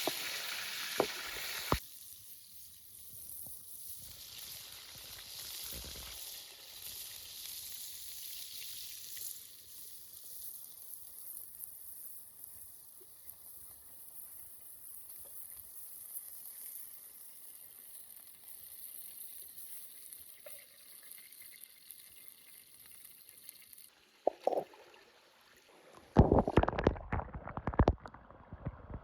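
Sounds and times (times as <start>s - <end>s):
food sizzling over a fire: 0.0s - 26.9s.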